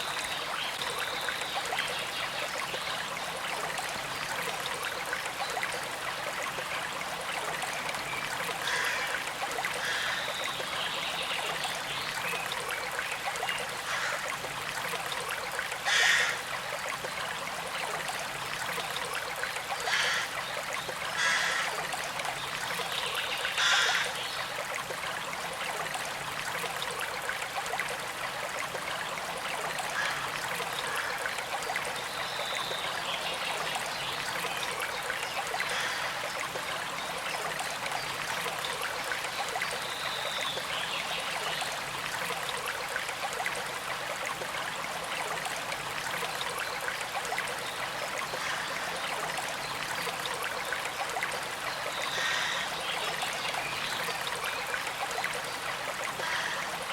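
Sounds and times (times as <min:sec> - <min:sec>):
creek trickling and burbling: 0:00.0 - 0:56.9.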